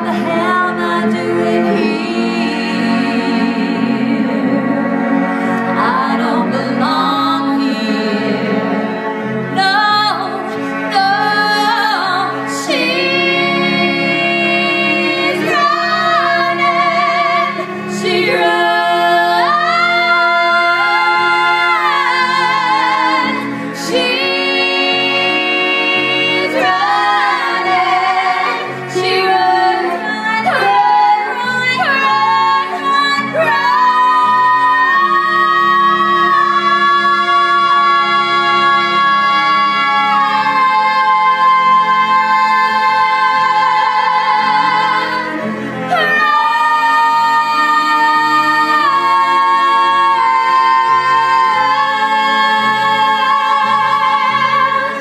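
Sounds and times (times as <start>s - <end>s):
woman singing with vibrato: 0.0s - 4.9s, 9.5s - 55.0s
low musical accompaniment: 0.0s - 55.0s.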